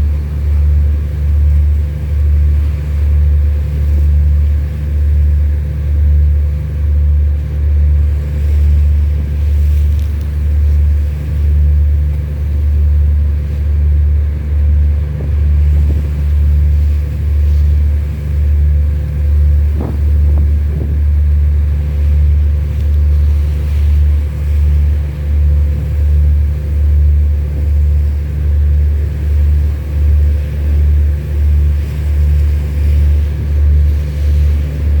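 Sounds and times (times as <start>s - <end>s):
boat diesel engine rumbling: 0.0s - 35.0s.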